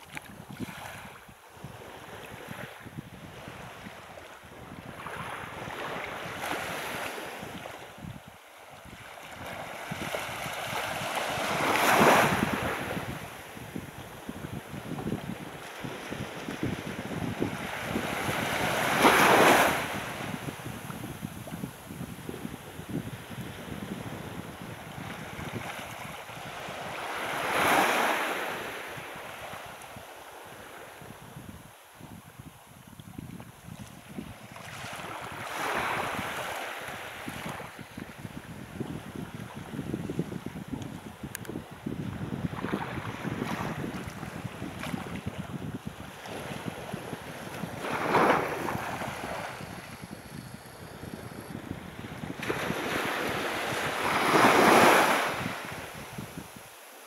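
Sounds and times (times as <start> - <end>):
wind buffeting microphone: 0.0 - 56.7.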